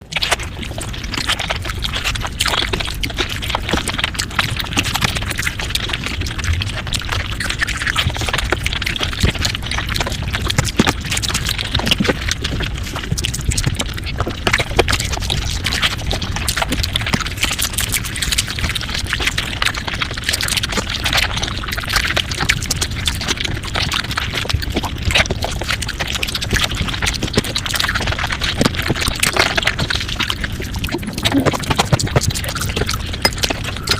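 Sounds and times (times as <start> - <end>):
rapid chewing and mouth clicks: 0.0 - 33.9.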